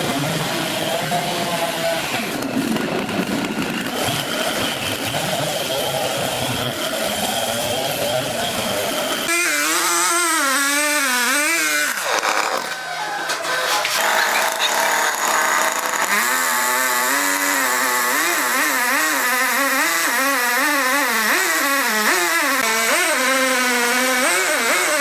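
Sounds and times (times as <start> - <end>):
sawmill machinery running: 0.0 - 25.0.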